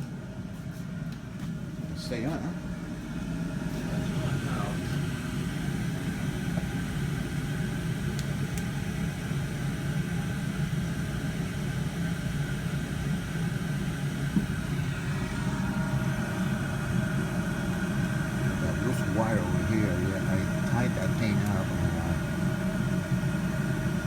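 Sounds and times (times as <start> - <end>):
oil furnace burner and blower rumble: 0.0 - 24.0.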